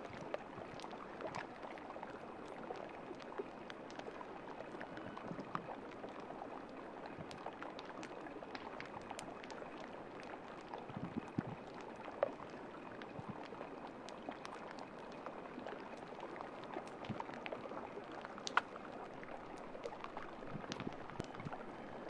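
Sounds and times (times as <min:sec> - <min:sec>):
small ticks and clicks: 0:00.0 - 0:22.0
water lapping and trickling: 0:00.0 - 0:22.0.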